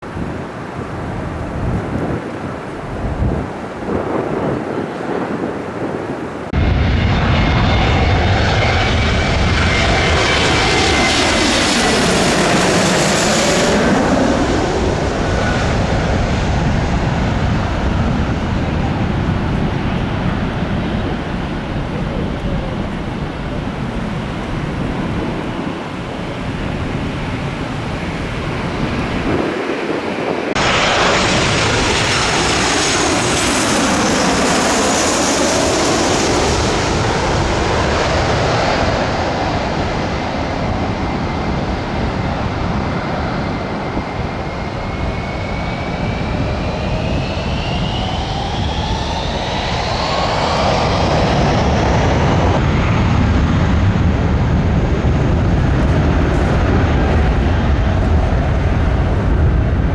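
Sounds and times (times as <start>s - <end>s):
jet engines passing: 0.0s - 59.9s.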